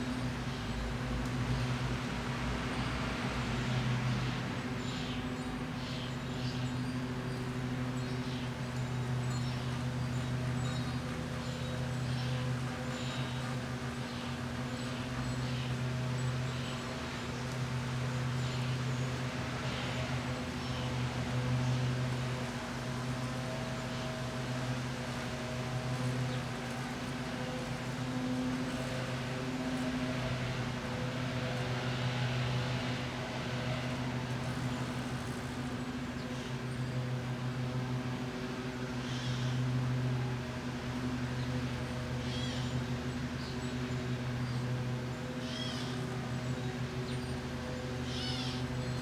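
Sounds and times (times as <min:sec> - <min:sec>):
microwave ovens humming: 0:00.0 - 0:49.0.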